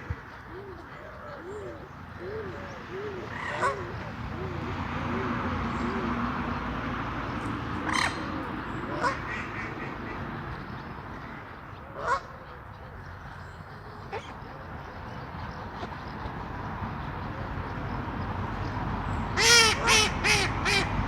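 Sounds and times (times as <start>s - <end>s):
birds calling: 0.0s - 17.1s.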